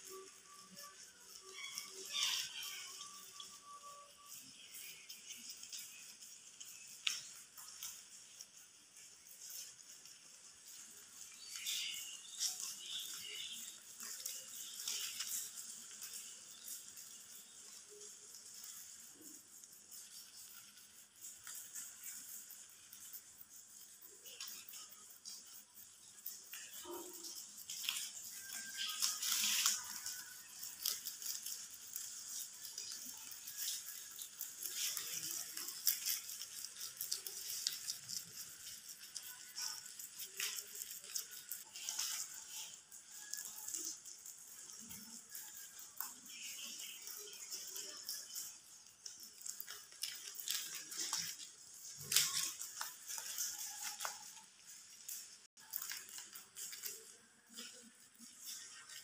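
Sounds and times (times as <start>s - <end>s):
rabbits chewing leaves: 0.0s - 59.0s.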